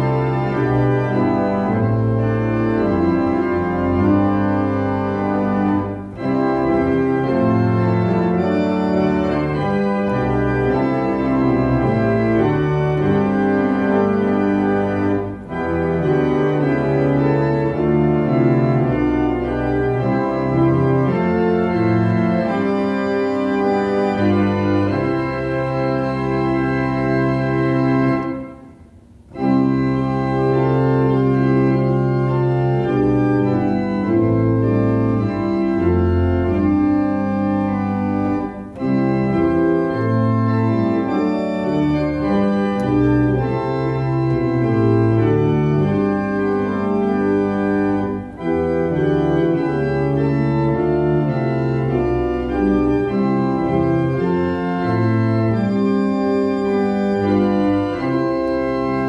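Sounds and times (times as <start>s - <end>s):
church organ playing a hymn: 0.0s - 59.0s.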